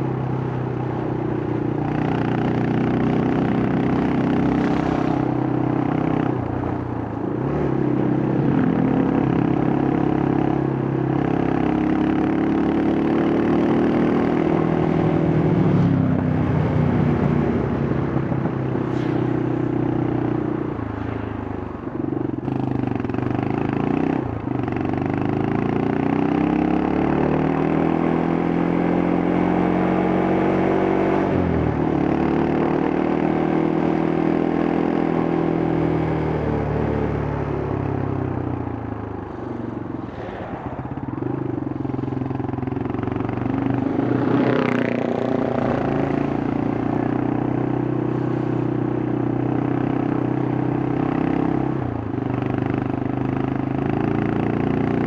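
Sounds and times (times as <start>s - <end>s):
motorcycle engine accelerating: 0.0s - 20.9s, 22.0s - 55.0s.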